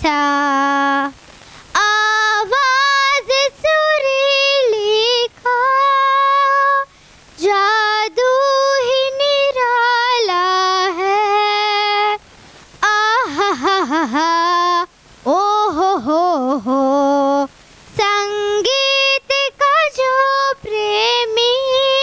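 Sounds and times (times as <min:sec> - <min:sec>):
girl singing with vibrato: 0:00.0 - 0:22.0.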